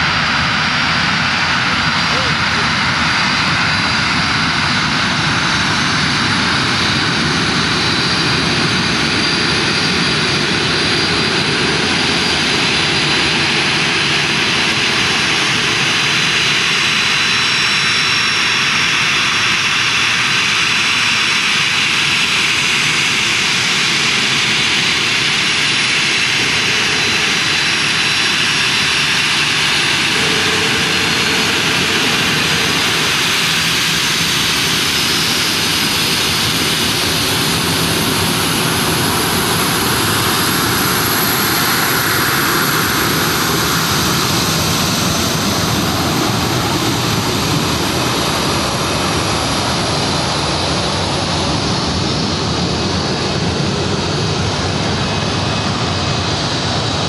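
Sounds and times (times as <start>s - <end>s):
high engine whine: 0.0s - 57.0s
jet engine roar: 0.0s - 57.0s.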